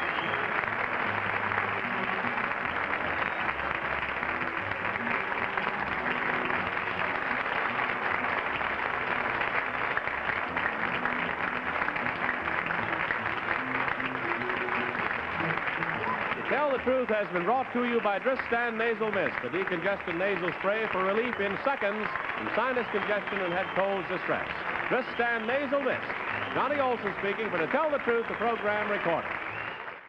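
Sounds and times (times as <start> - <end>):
theme music: 0.0 - 29.4
audience applauding: 0.0 - 30.0.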